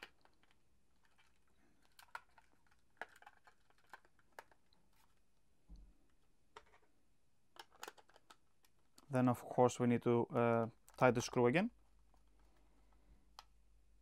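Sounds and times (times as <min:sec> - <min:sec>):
faint clicks and taps: 0:00.0 - 0:09.2, 0:10.2 - 0:13.6.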